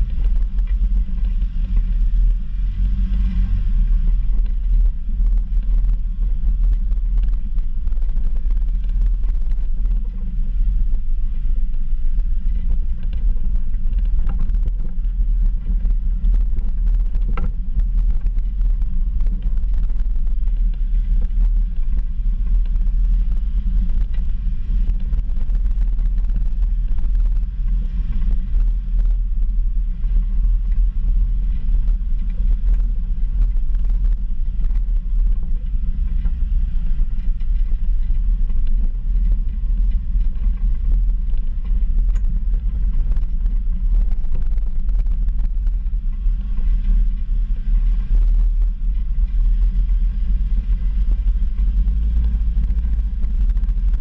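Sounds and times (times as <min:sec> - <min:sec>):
vehicle engine and tyre rumble: 0:00.0 - 0:54.0.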